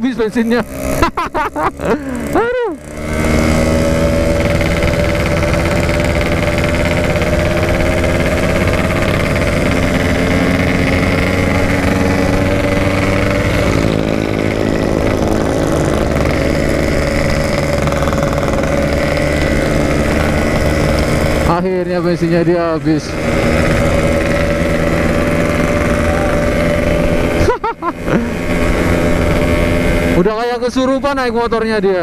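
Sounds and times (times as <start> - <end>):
two-stroke motorcycle engine running: 0.0 - 32.0.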